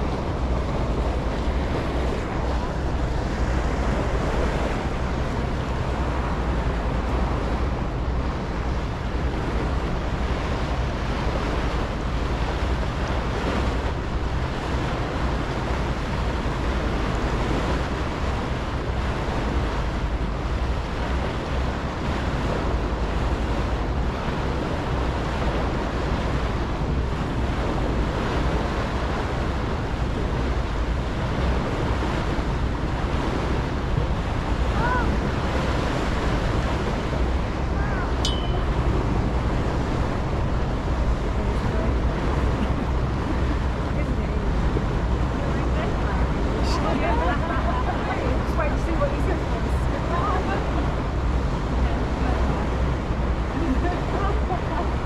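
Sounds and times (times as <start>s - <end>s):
ferry engine drone: 0.0s - 55.0s
water rushing past a hull: 0.0s - 55.0s
wind buffeting microphone: 0.0s - 55.0s.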